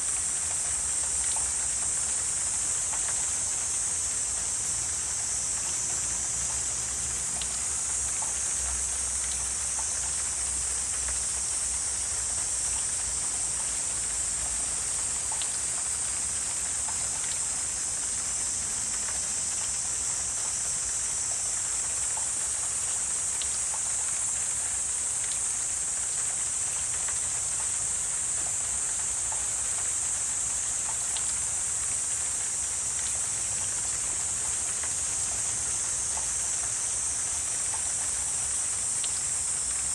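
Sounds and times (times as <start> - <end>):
faint ticks: 0.0 - 39.9
high-pitched insect chorus: 0.0 - 39.9.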